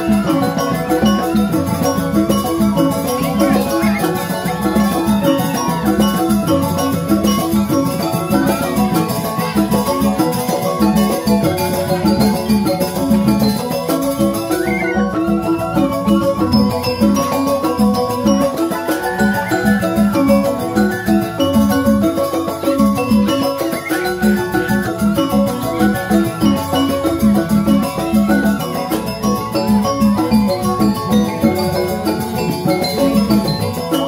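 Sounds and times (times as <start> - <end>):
bamboo xylophones playing melody: 0.0 - 34.0
hand drums beating: 0.0 - 34.0.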